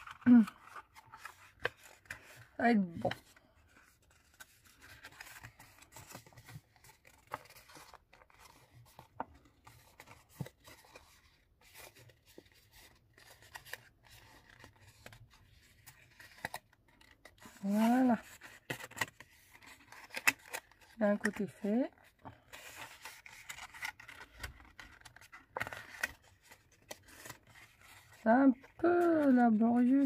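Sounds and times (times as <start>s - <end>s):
paper rustling and crinkling: 0.0s - 30.0s.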